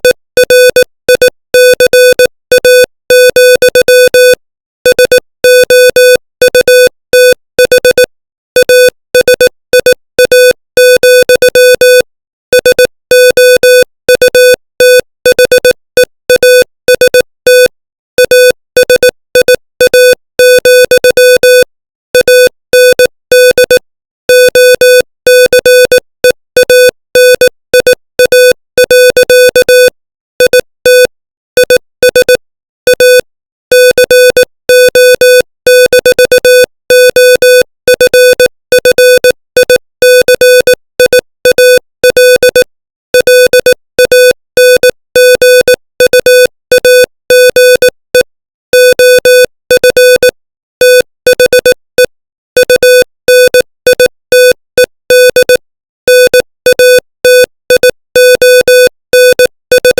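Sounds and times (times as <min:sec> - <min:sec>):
morse code beeps: 0:00.4 - 0:59.9.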